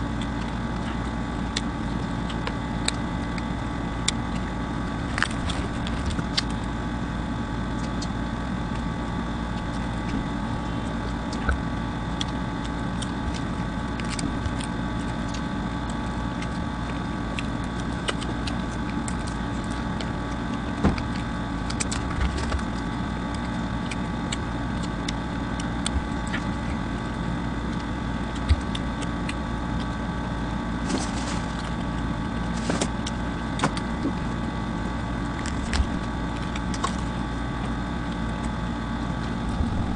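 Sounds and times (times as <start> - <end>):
machine hum: 0.0 - 39.9
person chewing: 0.0 - 39.9.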